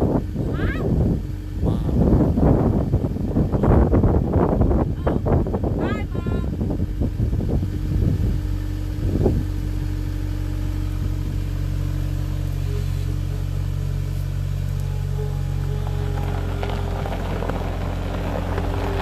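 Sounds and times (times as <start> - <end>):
skid steer engine running: 0.0 - 19.0.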